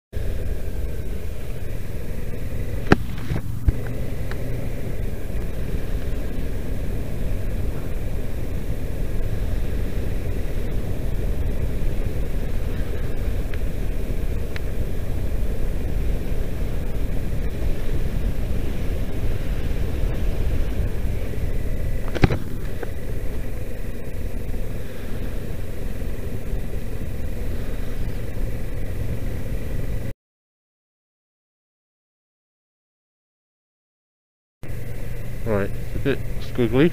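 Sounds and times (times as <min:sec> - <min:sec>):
motorcycle engine rumble: 0:00.1 - 0:30.1, 0:34.6 - 0:36.9.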